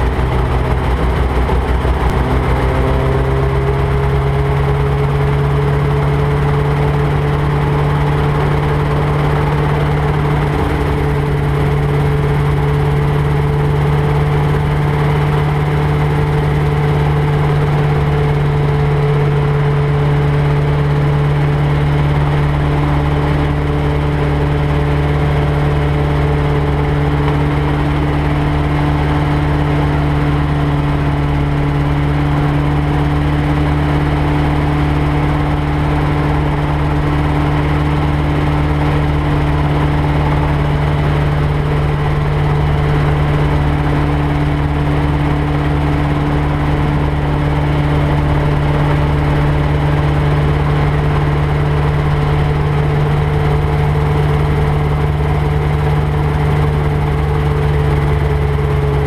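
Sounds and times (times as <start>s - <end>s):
helicopter engine and rotors: 0.0s - 59.0s.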